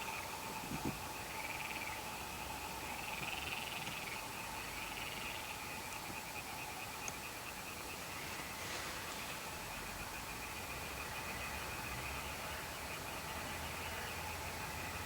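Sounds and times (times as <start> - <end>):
frogs chirring chorus: 0.0 - 15.0.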